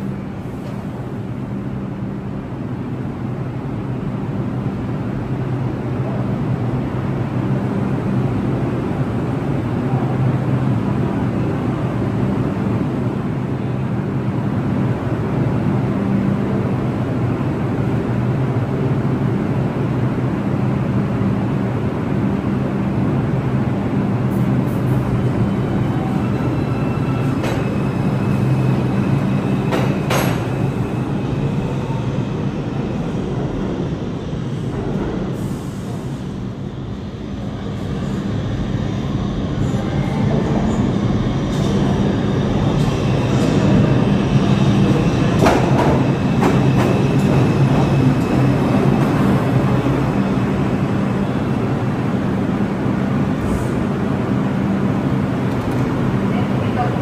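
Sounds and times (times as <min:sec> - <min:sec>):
subway train rumbling: 0:00.0 - 0:57.0.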